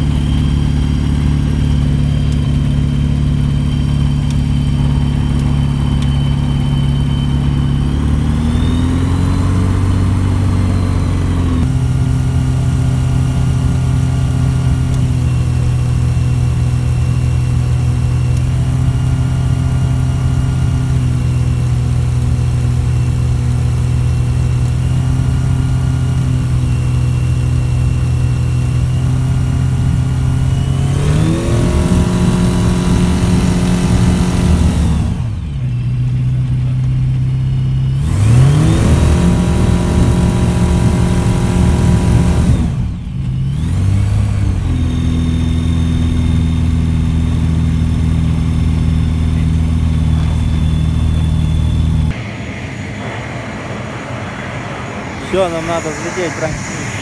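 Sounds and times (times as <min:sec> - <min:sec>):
aircraft engine running: 0:00.0 - 0:57.0.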